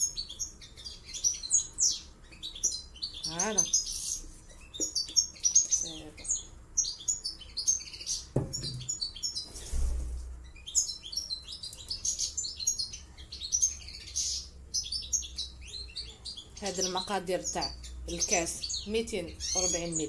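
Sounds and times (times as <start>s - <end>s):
small songbirds chirping: 0.0s - 9.8s, 10.4s - 20.0s.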